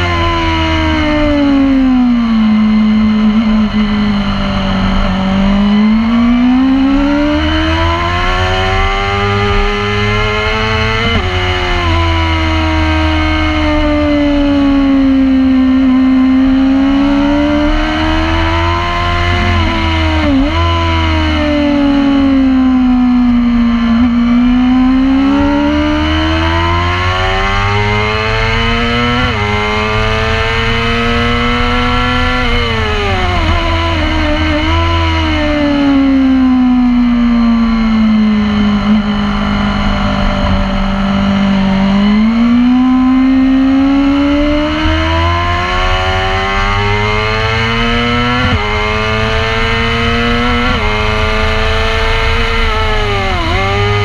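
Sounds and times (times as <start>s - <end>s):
racing motorcycle engine: 0.0s - 54.0s.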